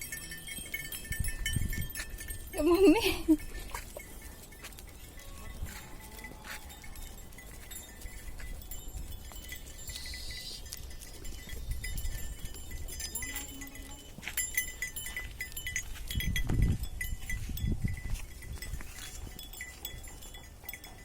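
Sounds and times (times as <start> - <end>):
livestock bells jingling: 0.0 - 21.0.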